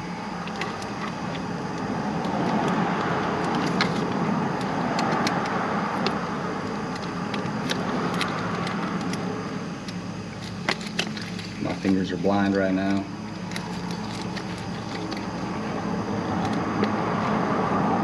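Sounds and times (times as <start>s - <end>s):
road vehicle passing: 0.3s - 10.3s, 13.6s - 18.0s.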